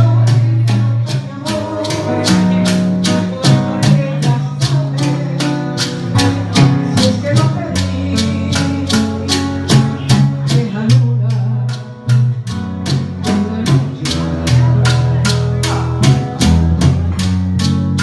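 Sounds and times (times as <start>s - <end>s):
bass line: 0.0s - 18.0s
plucked guitar: 0.0s - 18.0s.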